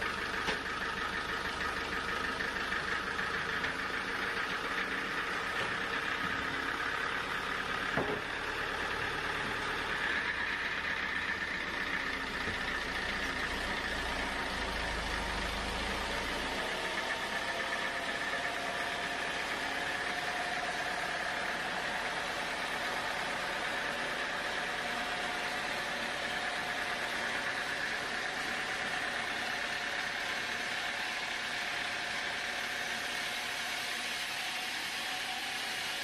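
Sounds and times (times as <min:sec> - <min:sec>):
engine running steadily: 0:00.0 - 0:36.0.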